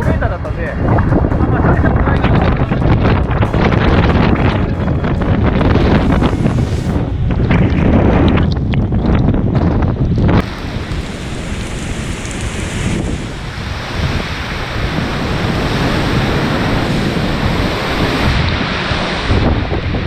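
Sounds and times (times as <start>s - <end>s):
heavy surf crashing: 0.0s - 20.0s
strong wind on microphone: 0.0s - 20.0s.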